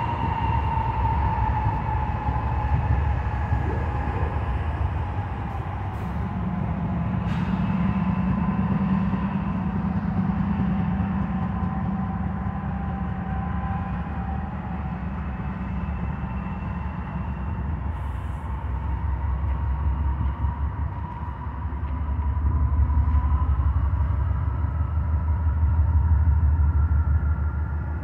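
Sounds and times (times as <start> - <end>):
diesel locomotives rumbling past: 0.0 - 28.0.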